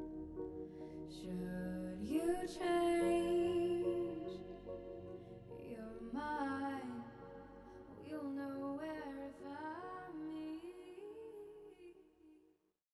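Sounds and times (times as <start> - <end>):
slow soft song: 0.0 - 12.4.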